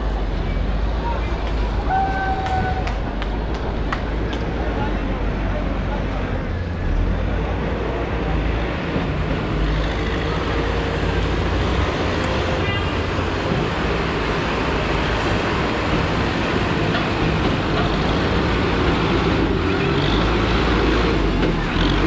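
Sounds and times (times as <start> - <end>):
road noise: 0.0 - 22.0
vehicle engine humming: 0.0 - 22.0.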